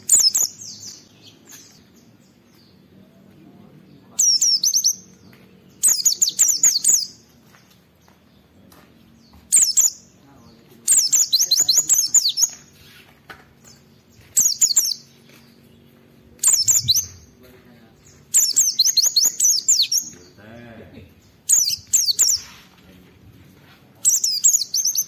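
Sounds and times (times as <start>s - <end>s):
bird twittering song: 0.0s - 25.0s.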